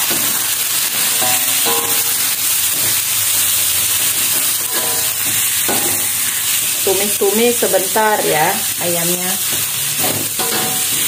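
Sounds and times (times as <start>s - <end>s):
metal spatula stirring in wok: 0.0s - 8.1s, 9.4s - 11.0s
chicken sizzling in oil: 0.0s - 11.0s.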